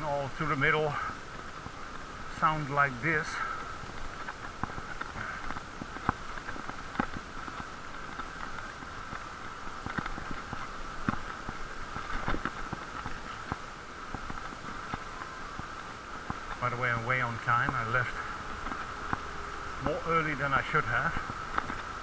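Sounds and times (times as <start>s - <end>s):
muffled bicycle riding hum: 0.0s - 22.0s.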